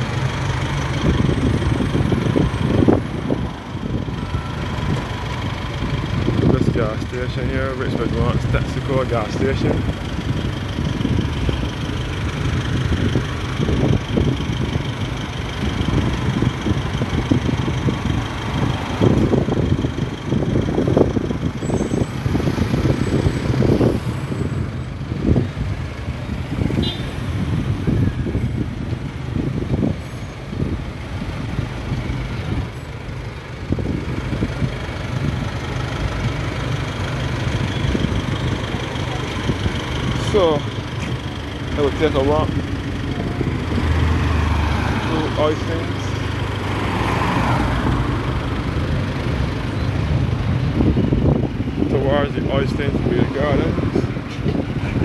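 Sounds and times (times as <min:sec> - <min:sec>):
cars driving slowly past: 0:00.0 - 0:55.0
low engine hum: 0:00.0 - 0:55.0.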